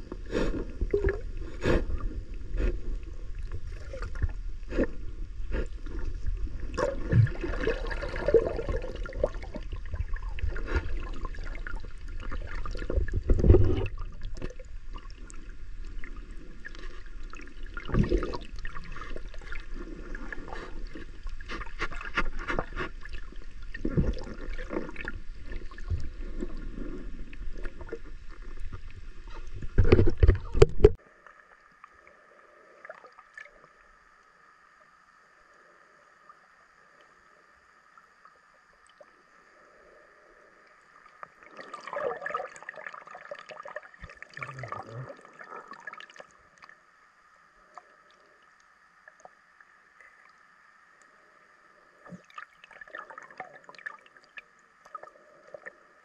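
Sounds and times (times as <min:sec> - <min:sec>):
faint steady whine: 0:00.0 - 0:56.0
water sloshing and bubbling: 0:00.0 - 0:56.0.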